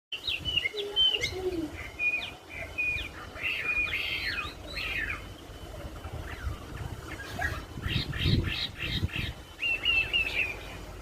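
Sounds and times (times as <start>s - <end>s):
low gliding bird notes: 0.2s - 11.0s
songbird whistling notes: 0.2s - 11.0s.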